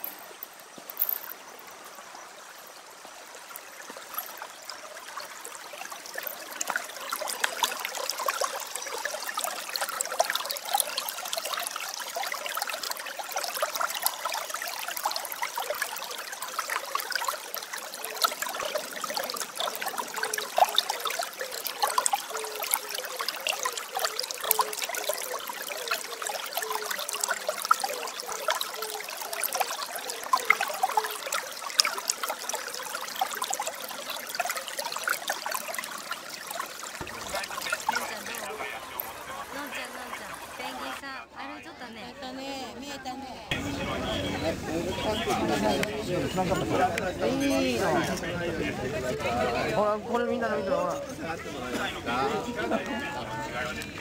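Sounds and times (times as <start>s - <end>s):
water trickling and splashing: 0.0s - 41.1s, 42.8s - 54.0s.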